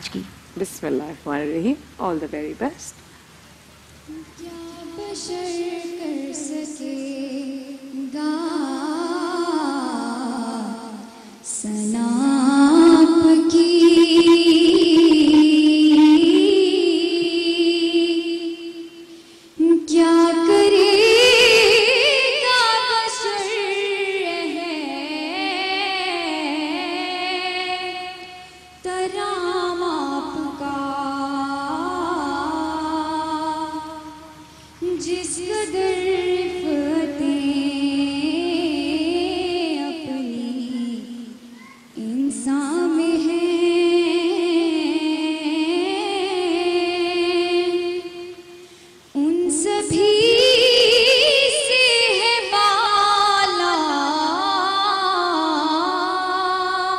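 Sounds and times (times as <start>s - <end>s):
girl singing devotional song: 4.0s - 56.9s.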